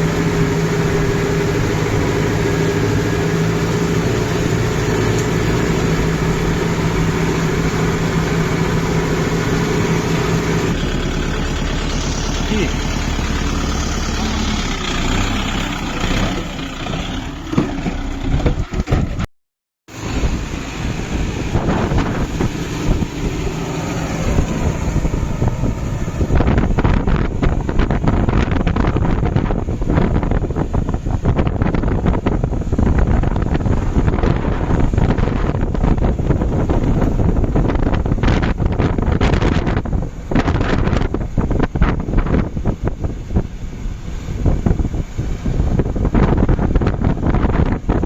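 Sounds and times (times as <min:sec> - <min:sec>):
tractor diesel engine running: 0:00.0 - 0:19.3, 0:19.9 - 0:48.0.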